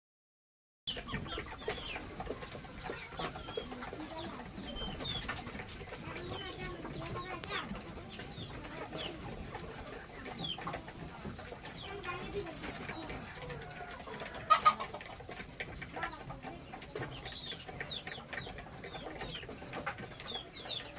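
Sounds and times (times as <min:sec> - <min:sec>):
chickens clucking: 0:00.9 - 0:20.9.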